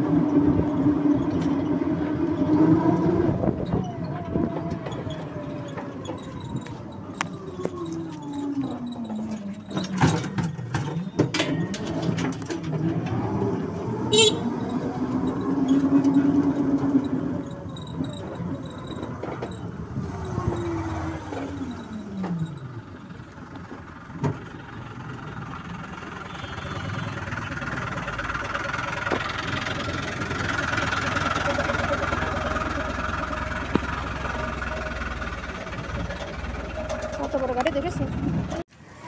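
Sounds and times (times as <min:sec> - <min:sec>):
large vehicle passing alongside: 0:00.0 - 0:39.0
road and engine noise: 0:00.0 - 0:39.0.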